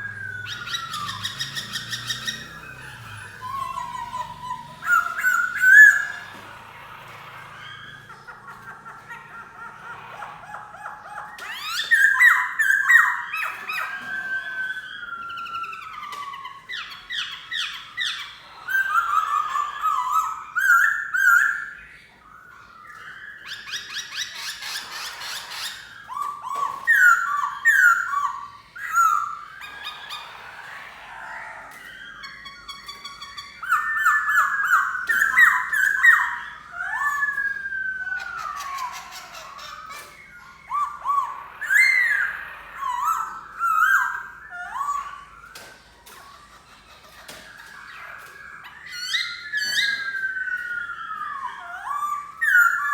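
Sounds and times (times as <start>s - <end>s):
bird singing whistled phrases: 0.0s - 6.3s, 10.6s - 46.5s, 47.5s - 52.9s.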